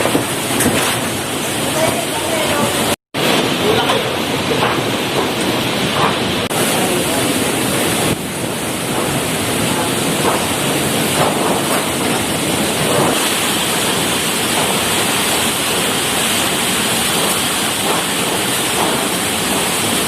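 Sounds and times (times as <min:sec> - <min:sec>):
storm wind and water rushing: 0:00.0 - 0:20.0.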